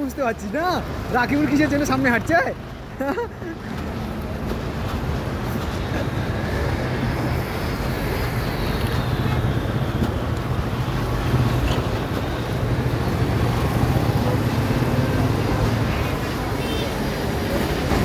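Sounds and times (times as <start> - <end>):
cars and motorbikes passing on wet road: 0.0 - 18.0.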